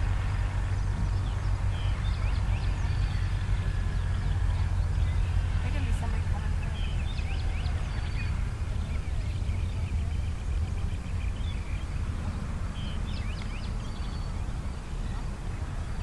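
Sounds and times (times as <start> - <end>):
birds chirping: 0.0 - 16.0
wind rumble on microphone: 0.0 - 16.0.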